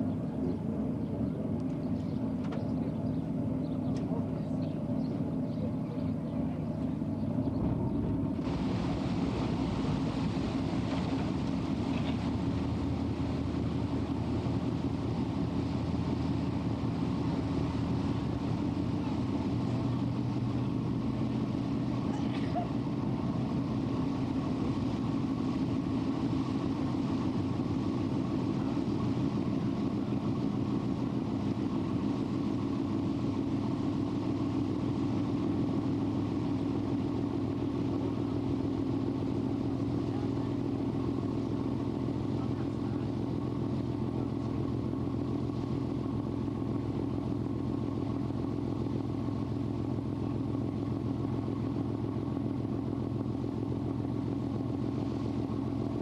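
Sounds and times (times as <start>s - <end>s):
boat engine drone: 0.0s - 56.0s.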